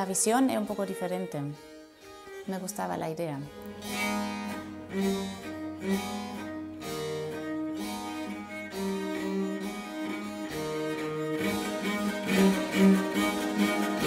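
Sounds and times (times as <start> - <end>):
viola da gamba bowing melody: 0.0 - 14.0.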